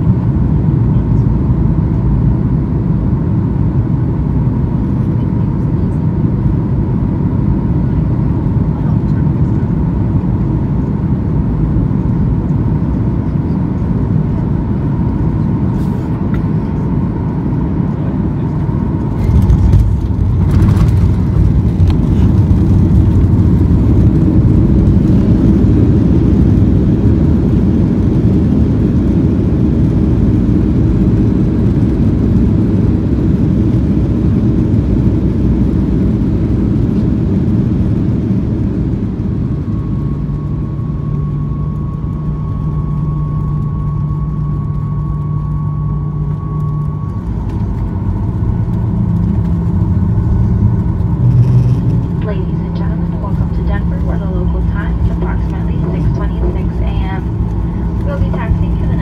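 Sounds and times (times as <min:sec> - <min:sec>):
jet engine and airflow noise: 0:00.0 - 0:59.0
jet rolling out rumble: 0:00.0 - 0:59.0.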